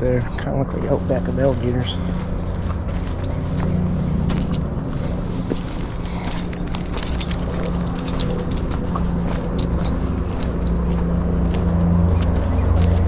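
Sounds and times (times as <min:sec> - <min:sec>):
motor traffic hum and rumble: 0:00.0 - 0:13.0.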